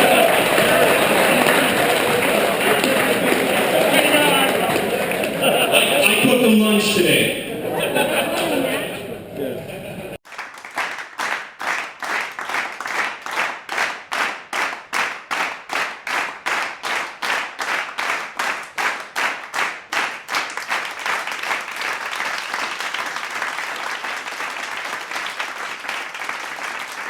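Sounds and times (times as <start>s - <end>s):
audience clapping: 0.0s - 9.5s, 10.1s - 27.0s.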